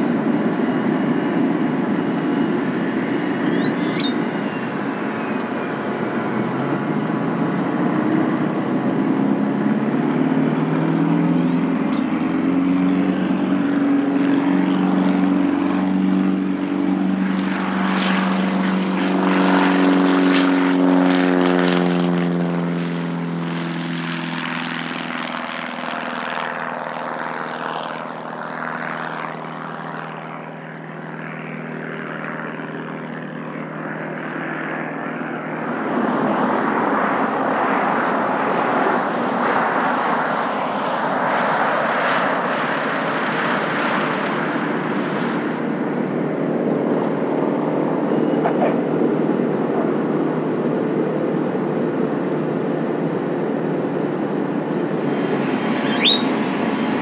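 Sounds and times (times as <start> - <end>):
propeller plane engine at full throttle: 0.0 - 57.0
rushing propeller plane: 0.0 - 57.0.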